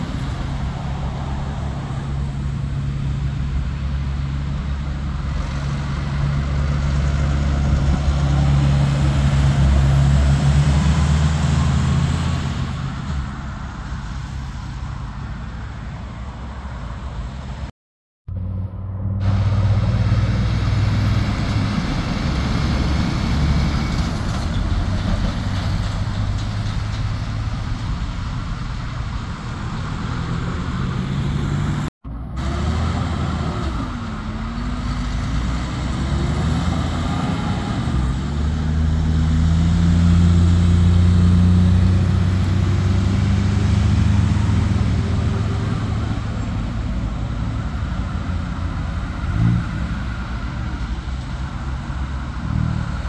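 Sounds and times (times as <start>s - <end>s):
cars passing: 0.0s - 17.7s, 18.3s - 53.0s
diesel truck engine drone: 0.0s - 17.7s, 18.3s - 53.0s.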